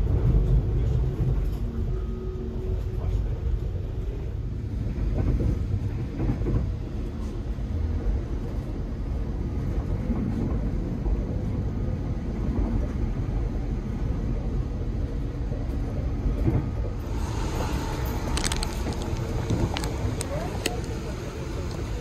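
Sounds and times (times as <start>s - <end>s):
train coach rumbling on track: 0.0s - 22.0s.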